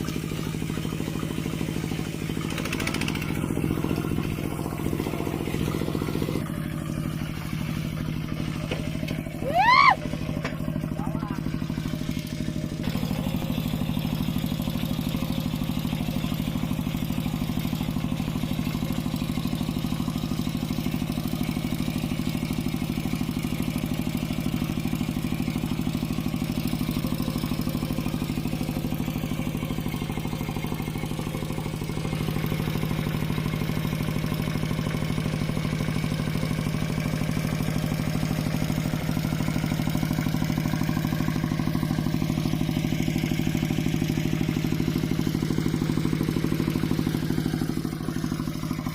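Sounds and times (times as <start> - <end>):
tractor engine clattering: 0.0 - 48.9.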